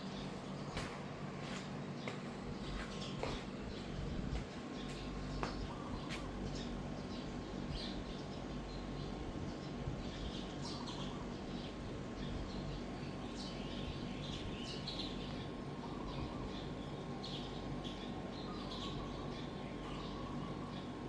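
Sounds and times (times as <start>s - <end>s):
ceiling fan running: 0.0s - 21.0s.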